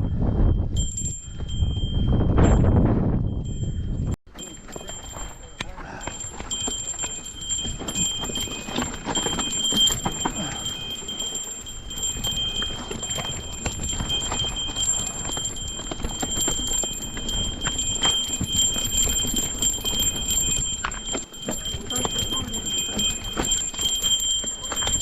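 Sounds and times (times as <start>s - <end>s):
bike knocking and rattling: 4.3s - 25.0s.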